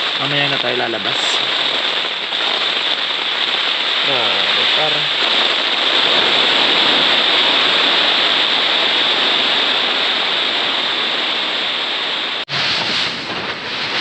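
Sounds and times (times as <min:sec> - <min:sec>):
heavy rain on a tent: 0:00.0 - 0:14.0.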